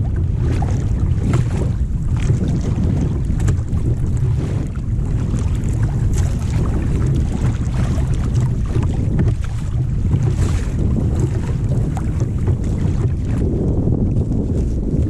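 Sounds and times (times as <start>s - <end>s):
water splashing against kayak: 0.0s - 15.0s
wind buffeting microphone: 0.0s - 15.0s.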